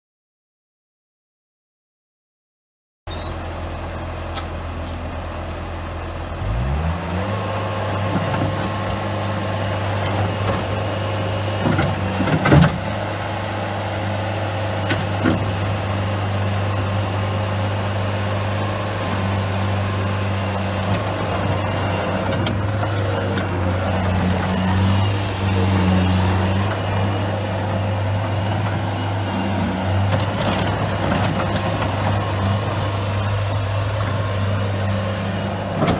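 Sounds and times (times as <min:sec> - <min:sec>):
diesel engine running: 0:03.1 - 0:35.9.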